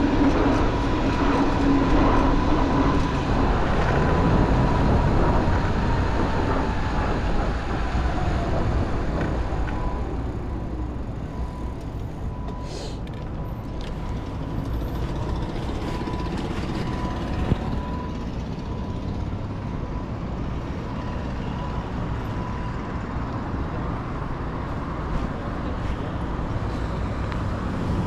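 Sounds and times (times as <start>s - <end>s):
wind rumbling on microphone: 0.0s - 12.6s, 13.2s - 28.0s
street traffic: 0.0s - 28.0s.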